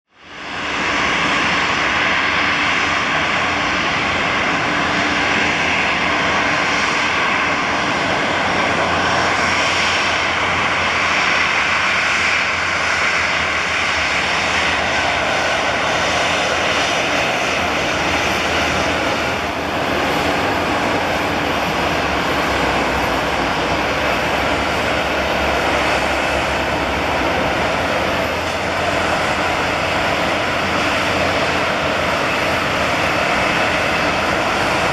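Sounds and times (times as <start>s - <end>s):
airliner engines running: 0.1s - 34.9s.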